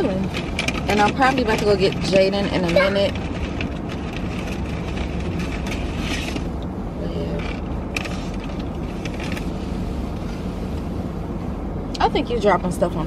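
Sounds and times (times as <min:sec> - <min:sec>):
rustling and creaking: 0:00.0 - 0:10.9
low rumble in car cabin: 0:00.0 - 0:13.0.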